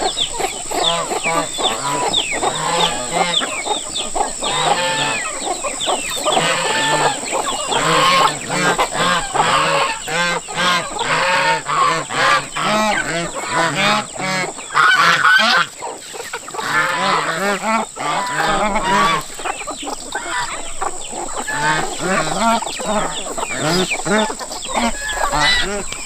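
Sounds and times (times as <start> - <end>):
poultry clucking and honking: 0.0 - 26.0.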